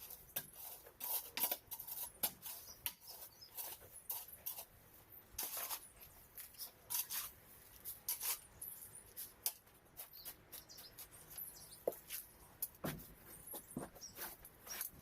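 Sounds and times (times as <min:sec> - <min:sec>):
scratchy scrapes: 0:00.0 - 0:04.8, 0:05.4 - 0:15.0.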